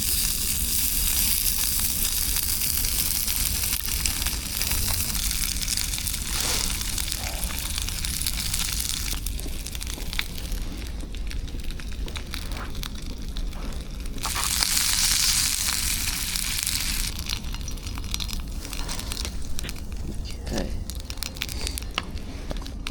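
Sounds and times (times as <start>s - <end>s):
steak sizzling and crackling: 0.0s - 20.1s.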